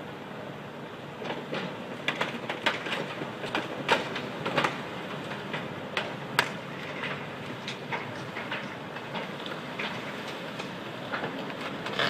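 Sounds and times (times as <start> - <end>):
wind and water hiss: 0.0 - 12.0.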